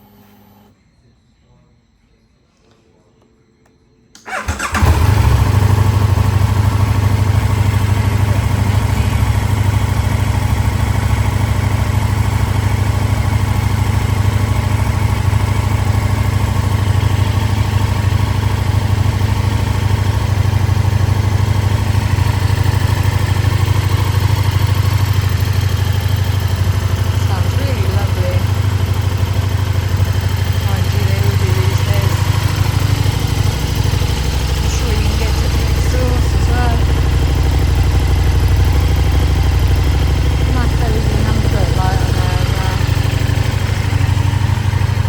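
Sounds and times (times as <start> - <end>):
motorcycle engine starting and idling: 4.2 - 45.0.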